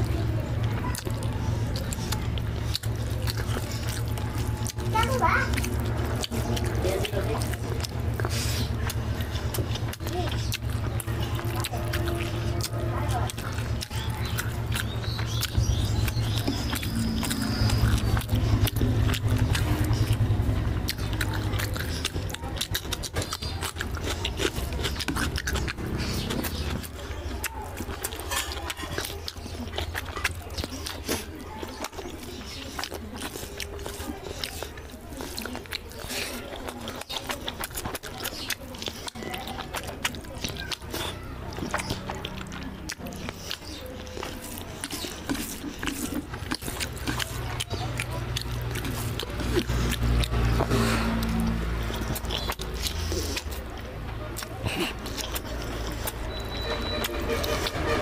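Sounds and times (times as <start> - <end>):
chewing and crunchy bites: 0.0 - 58.0
sharp wet clicks: 0.0 - 58.0.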